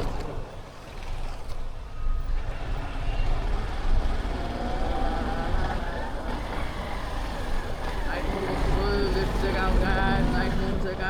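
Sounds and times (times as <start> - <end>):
faint engine whine: 1.9 - 11.0.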